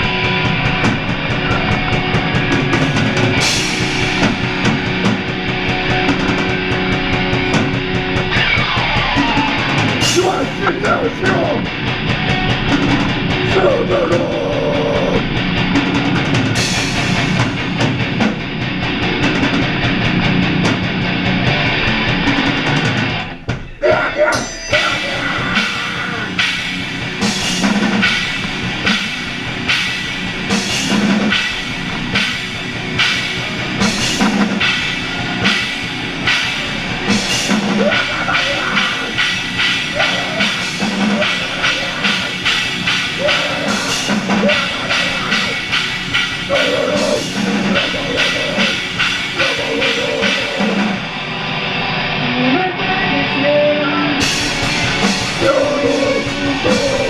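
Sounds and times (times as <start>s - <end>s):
drum kit: 0.0s - 51.4s, 54.1s - 57.0s
distorted electric guitars: 0.0s - 57.0s.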